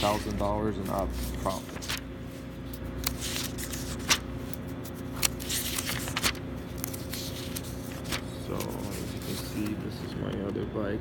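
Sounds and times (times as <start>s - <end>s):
notebook pages rustling: 0.0s - 10.5s
steady low hum: 0.0s - 11.0s.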